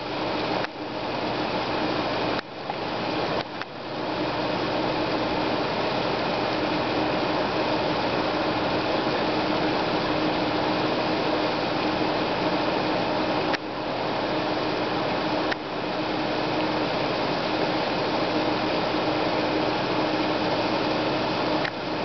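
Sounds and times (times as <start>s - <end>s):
constant motor hum: 0.0s - 22.0s
paddlewheel churning water: 0.0s - 22.0s.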